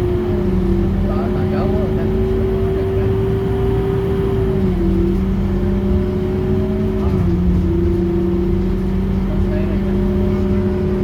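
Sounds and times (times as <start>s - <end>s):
bus engine rumble and whine: 0.0s - 11.0s.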